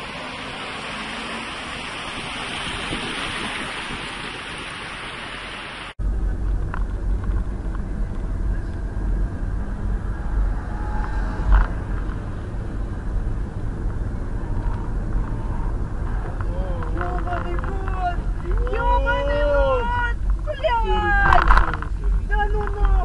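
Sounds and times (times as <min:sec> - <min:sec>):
low road rumble: 0:00.0 - 0:23.0.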